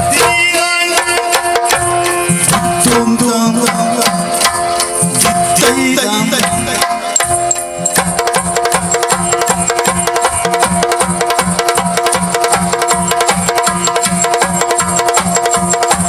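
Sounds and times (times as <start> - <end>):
drums beaten fast: 0.0 - 16.0.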